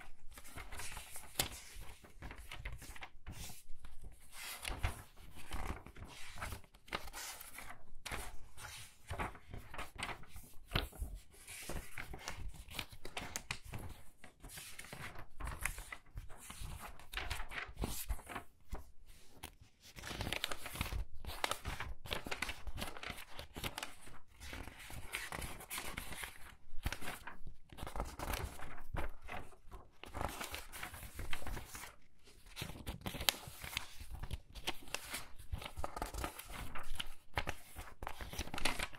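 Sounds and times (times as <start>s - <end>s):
book pages being turned: 0.0s - 38.9s.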